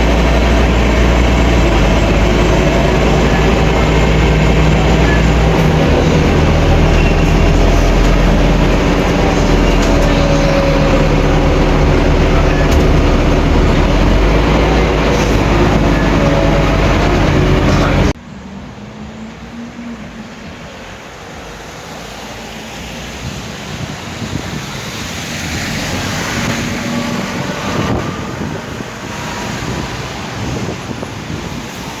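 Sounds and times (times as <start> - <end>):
bus engine drone: 0.0 - 32.0
vehicle and road noise: 0.0 - 32.0.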